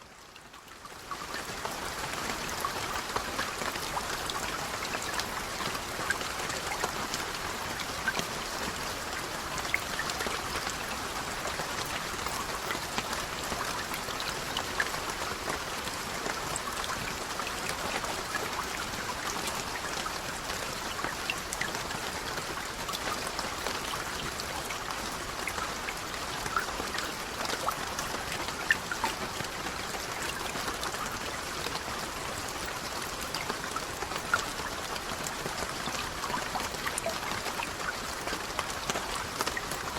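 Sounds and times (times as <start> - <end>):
raindrops ticking on a surface: 0.0 - 39.9
steady rain patter: 0.0 - 39.9.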